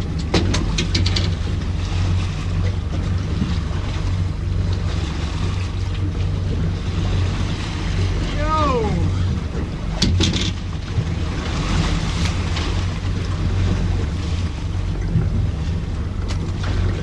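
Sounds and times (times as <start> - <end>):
steady low hum: 0.0 - 17.0
water washing against hull: 0.0 - 17.0.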